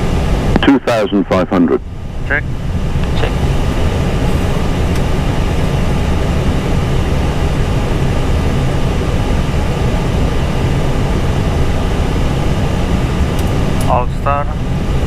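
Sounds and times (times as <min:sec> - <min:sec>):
engine rumble: 0:00.0 - 0:15.0
faint steady whine: 0:00.0 - 0:15.0
cockpit airflow: 0:00.4 - 0:15.0.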